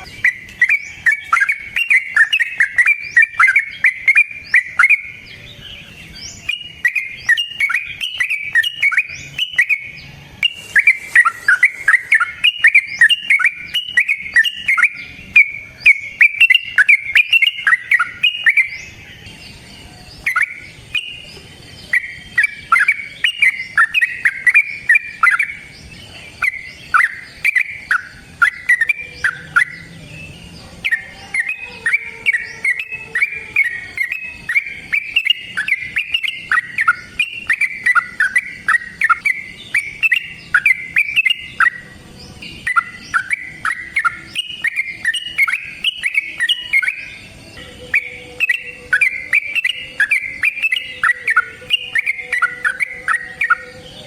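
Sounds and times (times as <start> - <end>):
bird singing bubbly chattering: 0.0 - 54.0.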